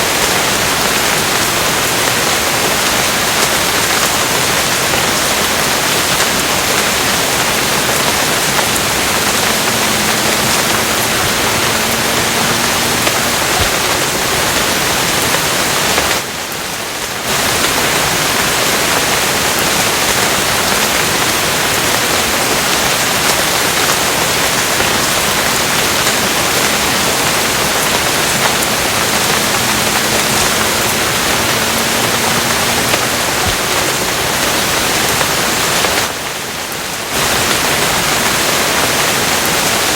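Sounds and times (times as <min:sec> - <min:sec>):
dense rainfall hiss: 0:00.0 - 0:39.9.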